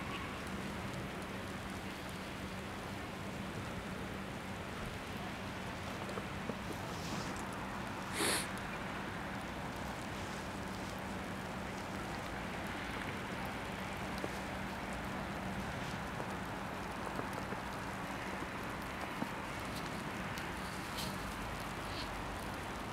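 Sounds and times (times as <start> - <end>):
distant traffic hiss: 0.0 - 22.9.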